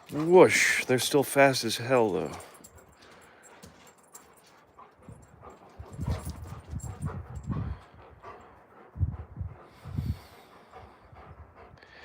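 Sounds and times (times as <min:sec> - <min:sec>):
dogs making low vocal sounds: 0:02.0 - 0:12.0.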